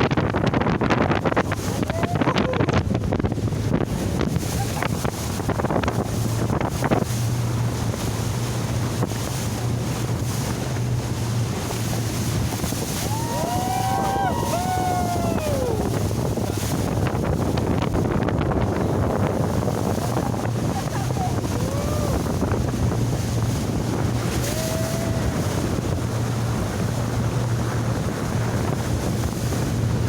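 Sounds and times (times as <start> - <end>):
motorboat engine hum: 0.0 - 30.0
rushing water: 0.0 - 30.0
wind buffeting microphone: 0.0 - 30.0.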